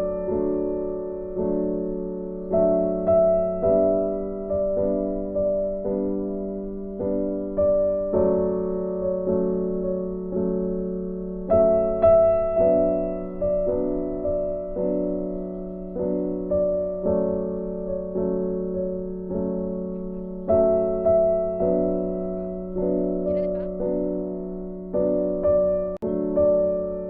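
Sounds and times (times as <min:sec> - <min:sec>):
slow gentle piano melody: 0:00.0 - 0:27.0.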